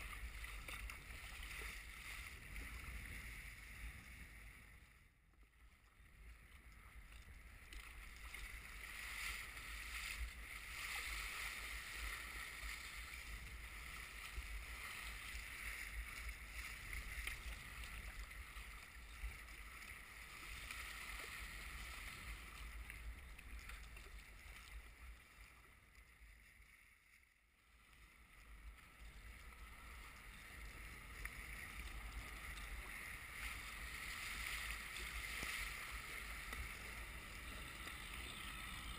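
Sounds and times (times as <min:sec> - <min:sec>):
water splashing along kayak hull: 0:00.0 - 0:38.9.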